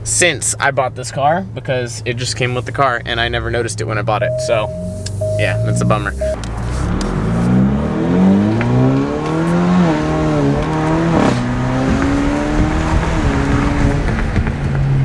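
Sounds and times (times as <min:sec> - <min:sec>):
car engine accelerating: 0:02.7 - 0:15.0.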